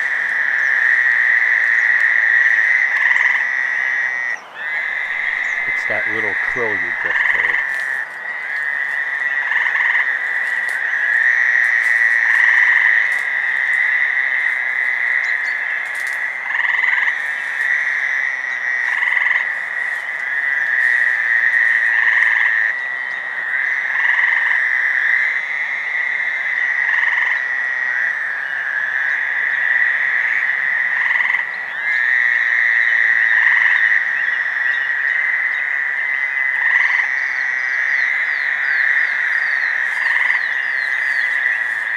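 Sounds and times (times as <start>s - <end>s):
toads buzzing: 0.0s - 41.9s
tree frog trill: 0.0s - 41.9s.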